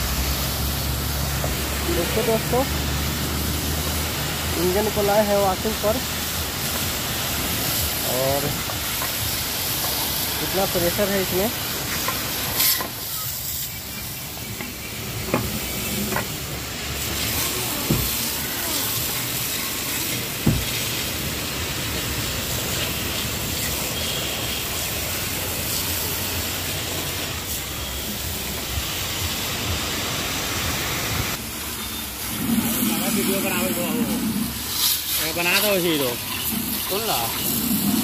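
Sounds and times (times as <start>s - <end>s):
high-pressure water jet hissing: 0.0s - 38.0s.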